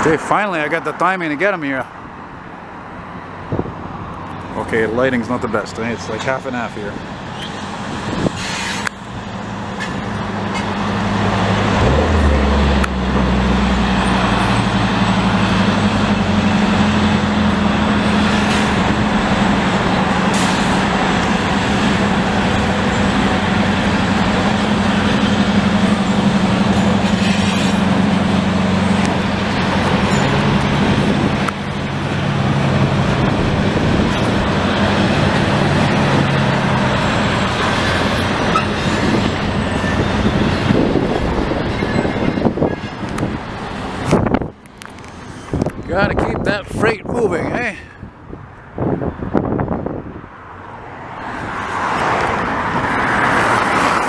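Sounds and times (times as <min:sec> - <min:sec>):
diesel locomotive engine drone: 0:00.0 - 0:54.0
train rumbling: 0:03.2 - 0:54.0.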